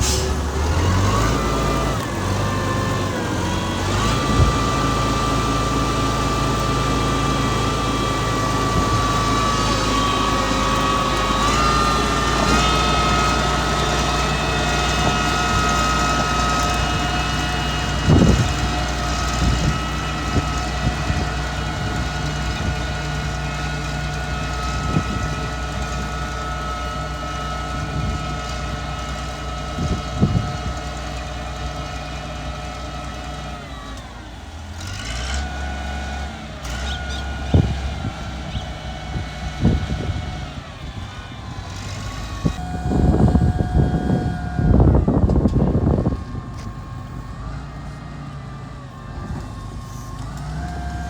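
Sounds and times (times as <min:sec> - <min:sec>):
diesel engine with high whine: 0:00.0 - 0:51.0.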